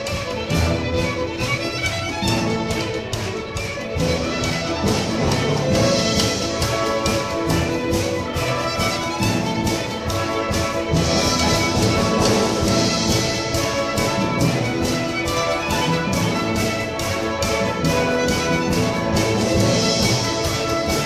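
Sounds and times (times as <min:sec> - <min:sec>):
string ensemble playing a fiddle tune: 0:00.0 - 0:21.0.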